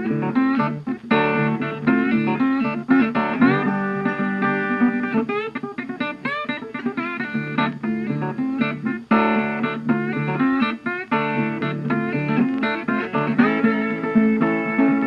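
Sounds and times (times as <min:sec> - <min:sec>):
guitar with bent notes: 0:00.0 - 0:15.0.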